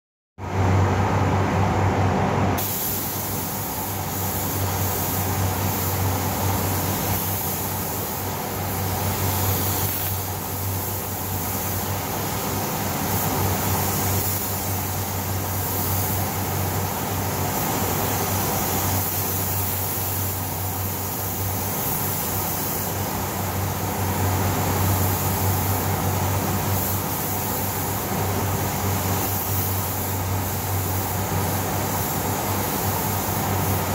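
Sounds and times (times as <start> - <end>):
low fan hum: 0.4 - 33.9
paint spray gun hissing: 2.6 - 33.9.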